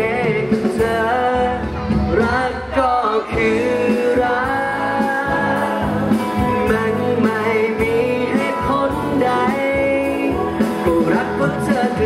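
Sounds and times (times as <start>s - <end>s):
instrumental accompaniment: 0.0s - 12.0s
man singing into microphone: 0.0s - 12.0s.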